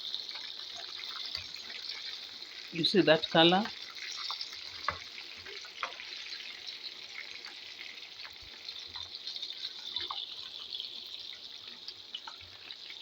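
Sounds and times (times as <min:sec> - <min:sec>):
chicken deep frying in oil: 0:00.0 - 0:13.0.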